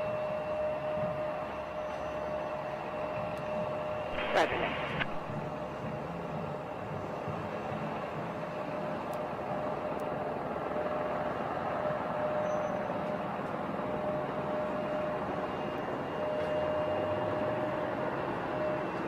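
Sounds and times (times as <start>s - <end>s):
jet engine taxiing: 0.0s - 19.0s
thin steady whine: 0.0s - 19.0s.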